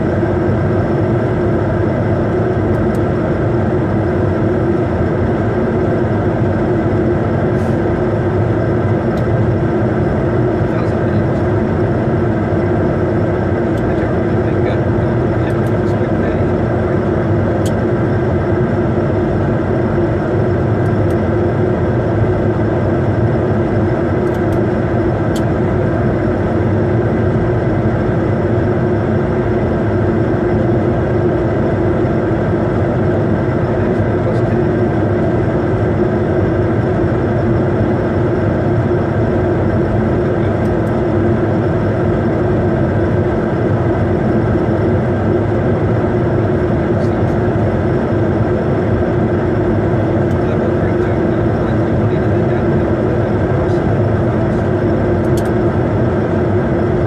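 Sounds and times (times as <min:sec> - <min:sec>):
airflow rush in jet cabin: 0:00.0 - 0:57.0
jet engines humming: 0:00.0 - 0:57.0.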